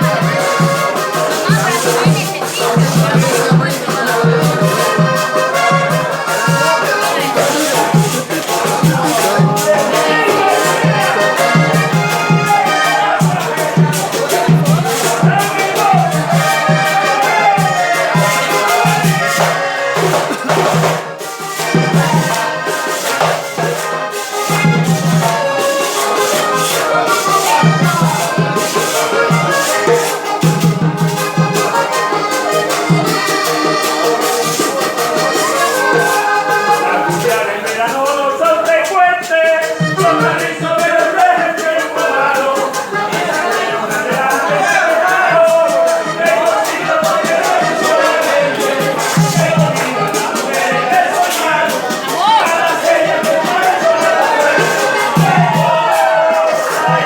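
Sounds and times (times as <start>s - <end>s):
music melody: 0.0s - 57.0s
rhythmic percussion: 0.0s - 57.0s.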